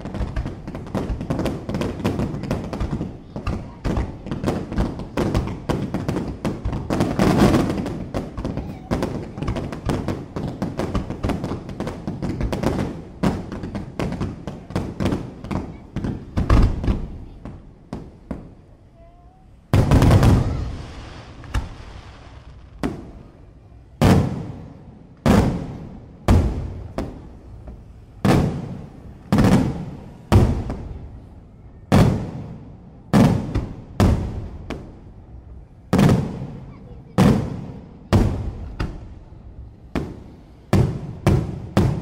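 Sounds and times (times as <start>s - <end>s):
fireworks crackling bangs: 0.0s - 42.0s
fireworks heavy blast: 0.0s - 42.0s
loud echoing fireworks reports: 0.0s - 42.0s.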